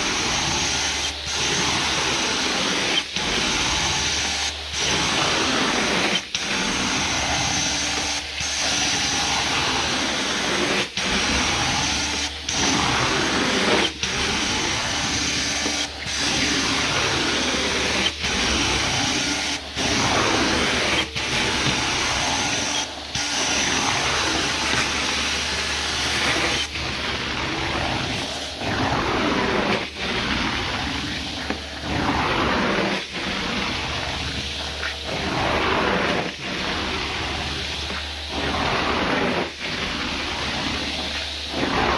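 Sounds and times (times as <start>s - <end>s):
carpet cleaner suction hiss: 0.0s - 41.9s.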